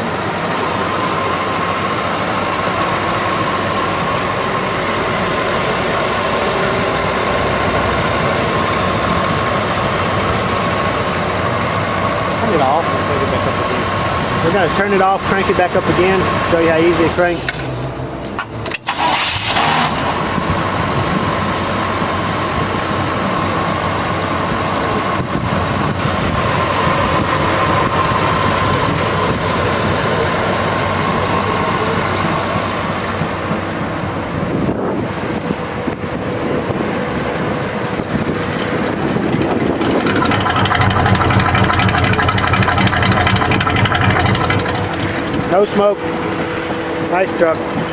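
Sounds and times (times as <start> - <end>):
pickup engine starting and idling: 0.0 - 47.9.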